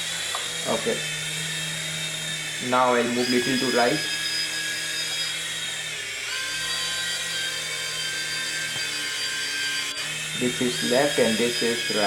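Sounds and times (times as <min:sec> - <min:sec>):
toy helicopter motors whining: 0:00.0 - 0:12.0.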